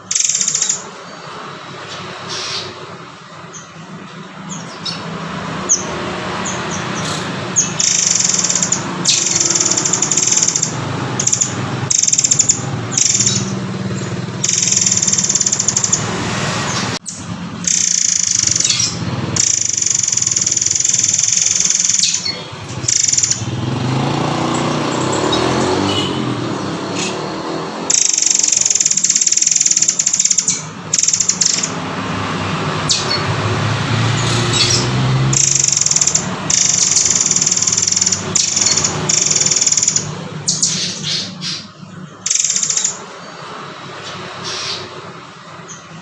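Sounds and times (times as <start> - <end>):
songbird trilling: 0.0 - 32.0, 32.7 - 46.0.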